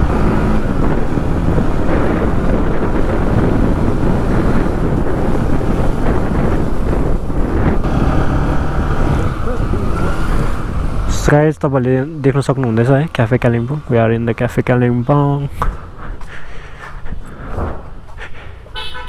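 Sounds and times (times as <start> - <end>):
wind buffeting microphone: 0.0 - 18.7
road noise: 0.0 - 19.0.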